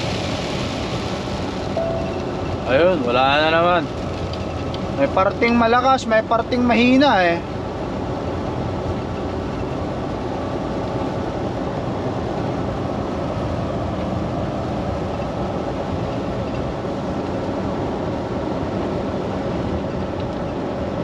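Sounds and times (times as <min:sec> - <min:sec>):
truck engine drone in cab: 0:00.0 - 0:21.0
tyre noise on wet road: 0:00.0 - 0:21.0.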